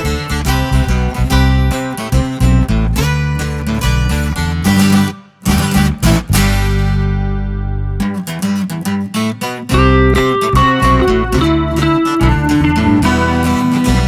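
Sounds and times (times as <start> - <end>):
strummed acoustic guitar music: 0.0 - 14.0.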